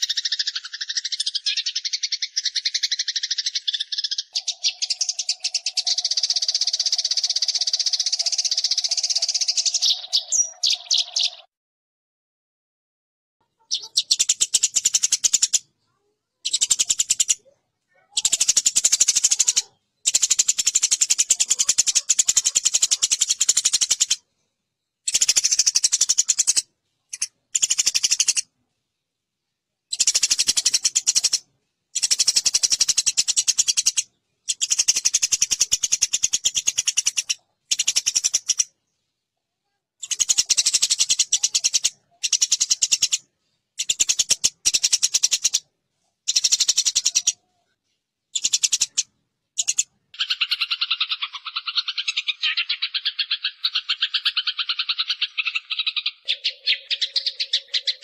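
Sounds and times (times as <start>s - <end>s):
sparrows chattering harshly: 0.0s - 11.5s, 13.5s - 24.4s, 25.0s - 28.5s, 29.9s - 39.1s, 40.0s - 47.5s, 48.3s - 58.0s.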